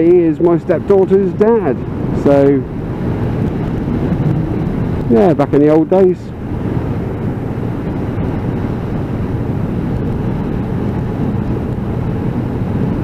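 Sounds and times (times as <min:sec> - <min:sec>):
motorcycle engine cruising: 0:00.0 - 0:13.0
wind rush in helmet: 0:00.0 - 0:13.0.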